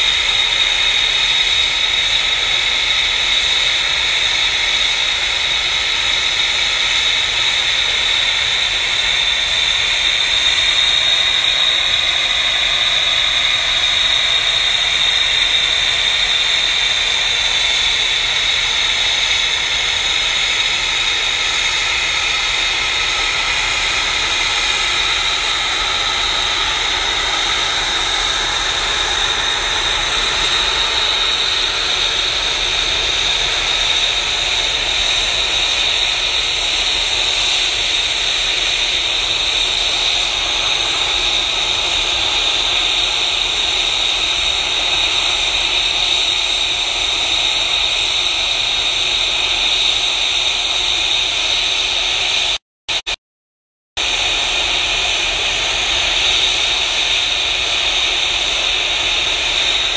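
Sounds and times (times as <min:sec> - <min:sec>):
jet noise rushing: 0:00.0 - 0:53.1, 0:54.0 - 0:59.9
jet engine high whine: 0:00.0 - 0:53.2, 0:54.0 - 0:59.9.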